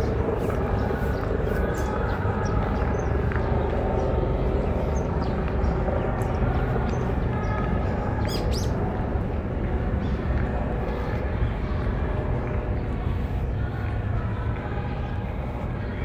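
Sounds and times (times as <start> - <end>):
small birds chirping: 0.0 - 14.5
low background rumble: 0.0 - 16.0.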